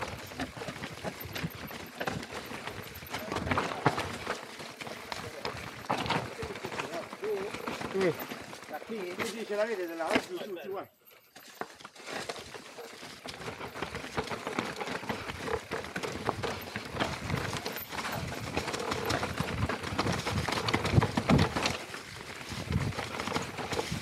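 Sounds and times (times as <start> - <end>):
bike rattling: 0.0 - 24.0
tyres crunching over stones: 0.0 - 24.0.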